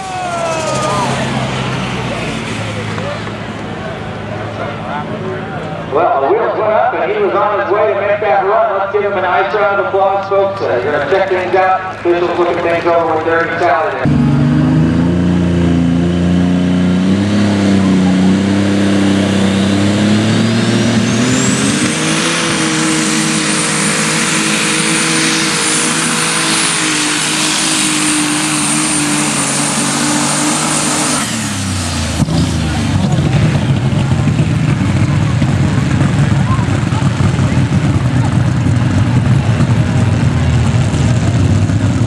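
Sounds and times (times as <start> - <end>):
tractor engine revving: 0.0 - 42.0.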